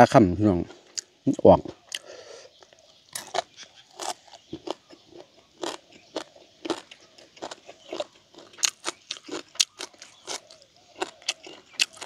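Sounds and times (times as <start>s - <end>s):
person chewing crunchily: 0.6s - 1.2s, 1.8s - 12.0s.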